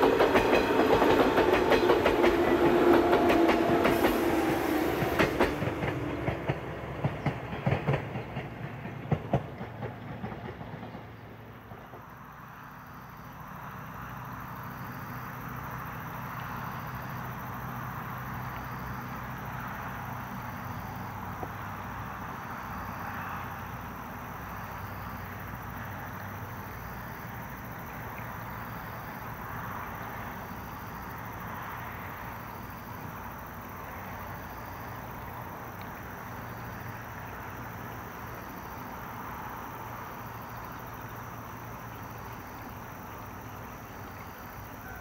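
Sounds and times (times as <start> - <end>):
outdoor noise: 0.0 - 45.0
train rumbling: 0.0 - 45.0.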